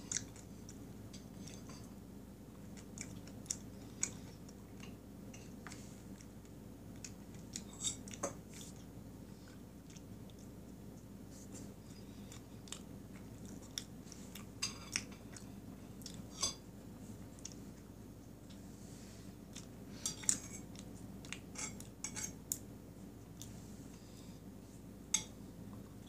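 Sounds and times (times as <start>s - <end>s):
chewing cake: 0.0s - 1.9s, 2.5s - 16.4s, 17.2s - 18.7s, 19.4s - 23.6s.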